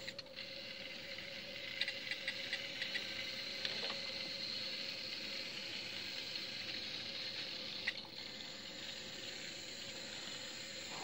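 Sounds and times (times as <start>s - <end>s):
model train motor humming: 0.0s - 11.0s.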